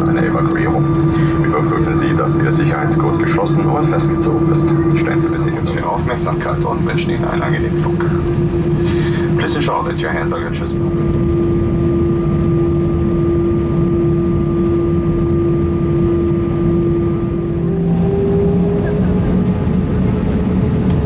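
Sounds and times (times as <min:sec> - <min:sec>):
cabin hum: 0:00.0 - 0:21.0
jet engines idling rumble: 0:00.0 - 0:21.0.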